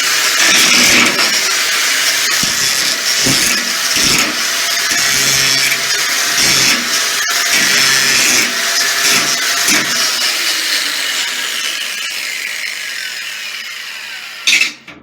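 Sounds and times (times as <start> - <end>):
electric grinder grinding steel: 0.0 - 15.0.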